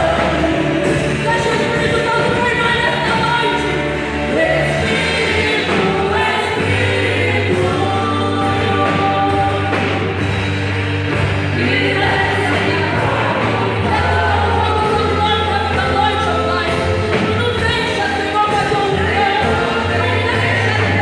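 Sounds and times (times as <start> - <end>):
band with heavy bass line: 0.0 - 21.0
voices singing: 0.0 - 21.0.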